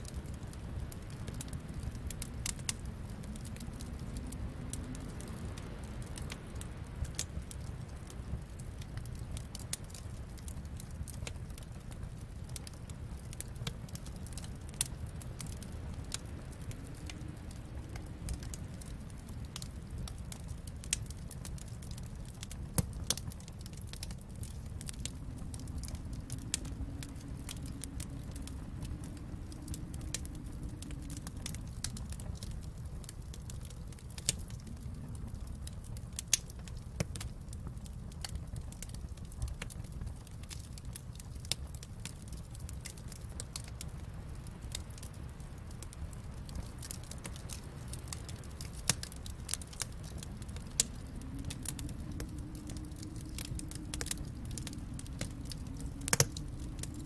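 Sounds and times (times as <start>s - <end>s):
fire popping and snapping: 0.0s - 57.0s
low rumble of flames: 0.0s - 57.0s
wood fire crackling: 0.0s - 57.0s.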